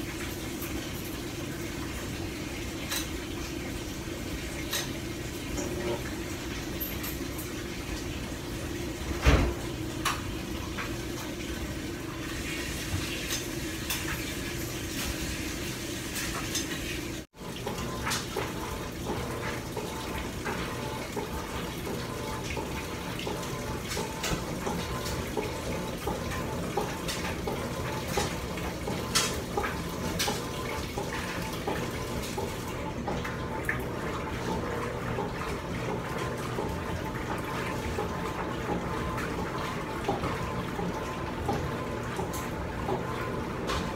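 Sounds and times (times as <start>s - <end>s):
water filling washing machine: 0.0s - 43.9s.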